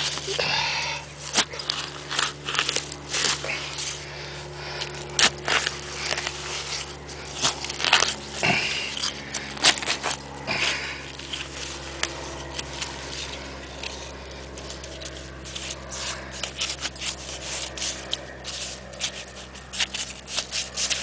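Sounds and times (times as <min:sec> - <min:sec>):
digging in wet sand: 0:00.0 - 0:21.0.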